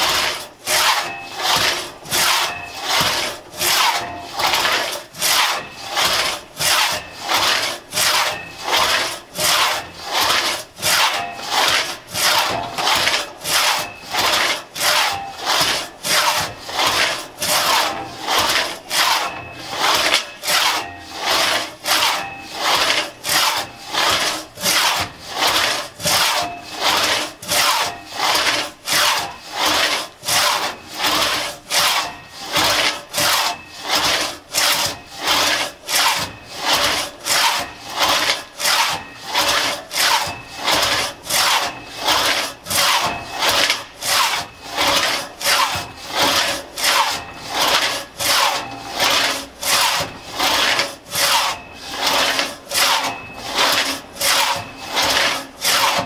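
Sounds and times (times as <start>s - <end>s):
crosscut saw cutting log: 0.0s - 56.0s.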